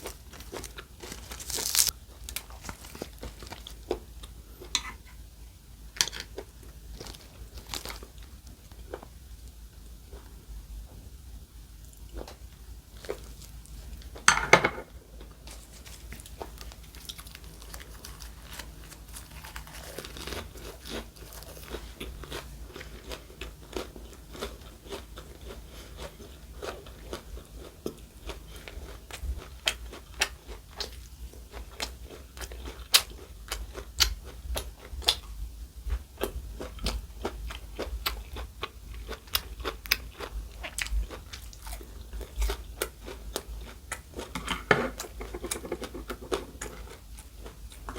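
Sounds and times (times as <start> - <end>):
chewing and crunching food: 0.0 - 5.2, 5.9 - 10.5, 11.9 - 47.9.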